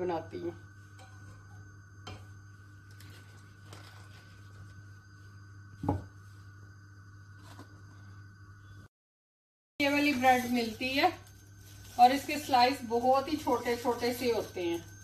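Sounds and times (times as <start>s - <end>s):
steady low hum: 0.0s - 8.9s, 9.8s - 15.0s.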